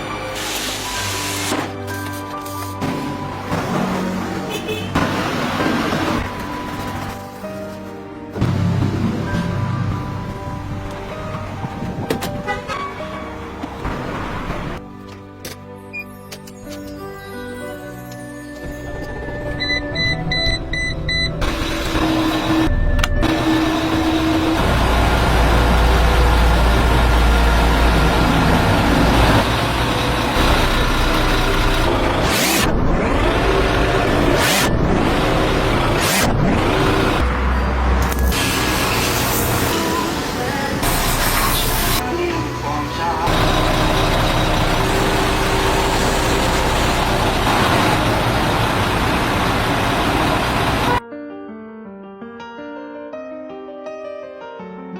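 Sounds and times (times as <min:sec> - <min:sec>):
truck engine rumbling: 0:01.7 - 0:14.8, 0:18.7 - 0:51.0.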